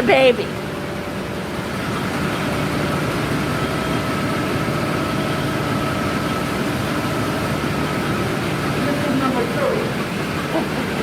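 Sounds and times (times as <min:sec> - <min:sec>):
compressors droning: 0:00.0 - 0:11.0.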